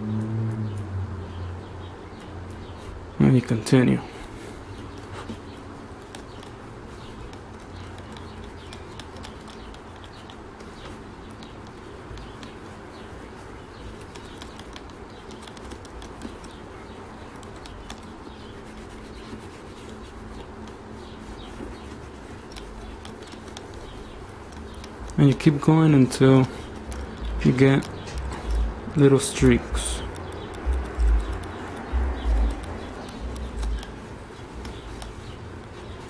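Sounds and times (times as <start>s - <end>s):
cotton ball scrubbing leather: 4.8s - 36.0s.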